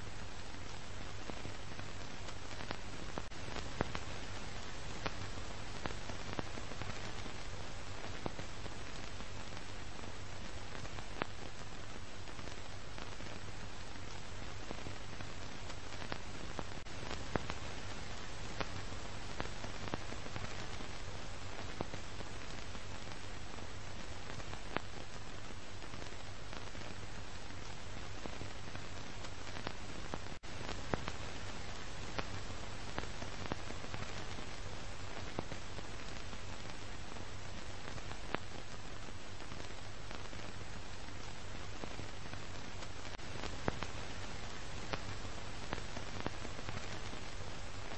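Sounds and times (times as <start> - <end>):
crackles and pops: 0.0 - 47.9
film soundtrack hiss: 0.0 - 47.9.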